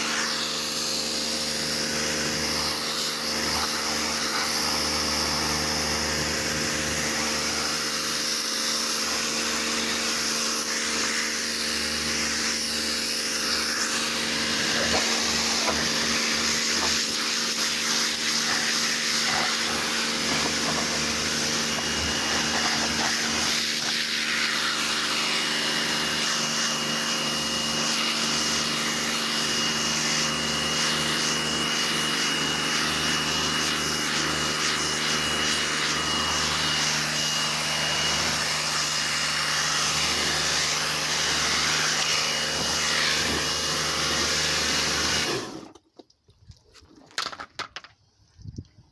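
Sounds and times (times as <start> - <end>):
water spraying: 0.0 - 27.2, 27.8 - 45.7
pressure washer humming: 0.0 - 45.8.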